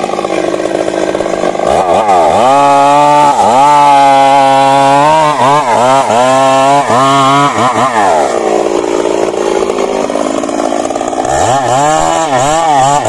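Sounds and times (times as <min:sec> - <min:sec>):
chainsaw running at high revs: 0:00.0 - 0:13.0.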